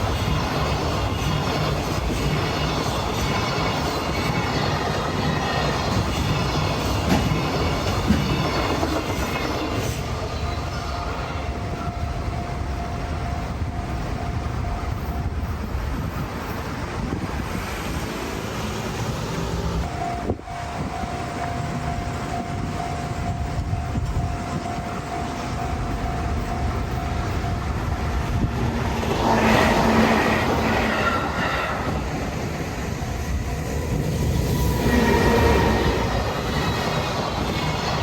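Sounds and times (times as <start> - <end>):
train running on rails: 0.0 - 38.0.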